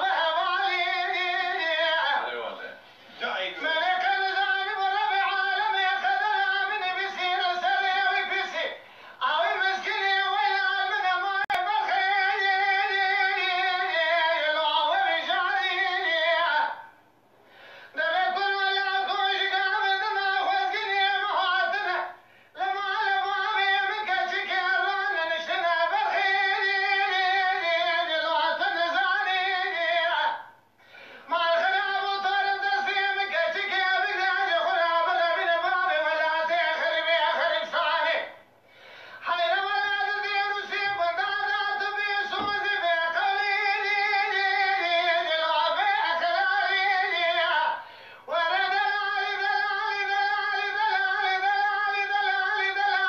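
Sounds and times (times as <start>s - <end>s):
man singing unaccompanied: 0.0s - 17.0s, 17.9s - 30.6s, 31.2s - 38.5s, 39.1s - 53.0s.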